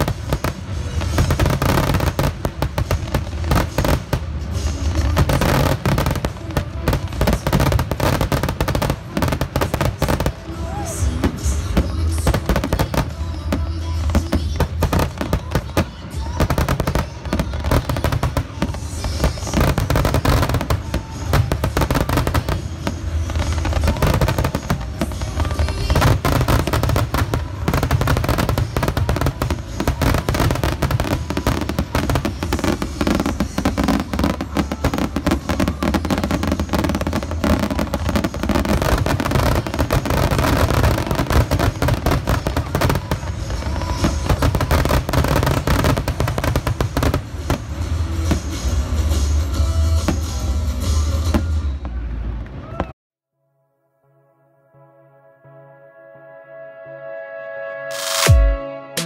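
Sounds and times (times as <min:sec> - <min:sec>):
fireworks bangs and crackle: 0:00.0 - 0:53.0.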